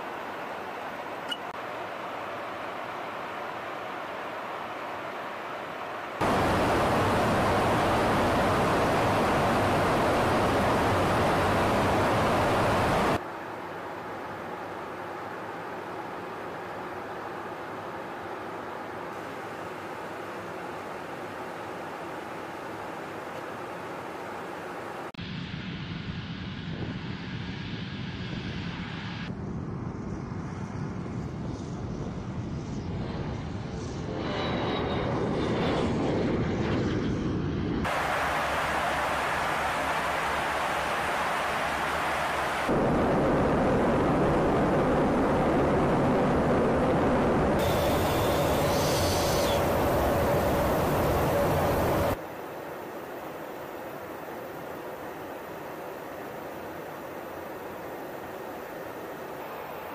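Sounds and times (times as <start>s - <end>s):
aircraft engines and airflow rushing: 0.0s - 59.9s.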